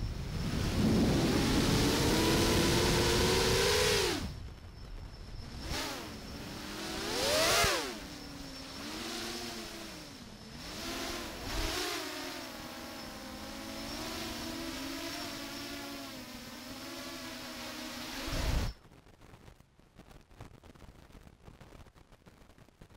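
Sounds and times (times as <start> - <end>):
drone motors and propellers buzzing: 0.0 - 18.8.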